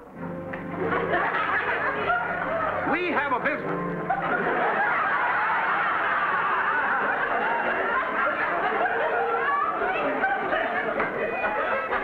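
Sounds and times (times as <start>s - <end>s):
audience laughing: 0.7s - 12.0s.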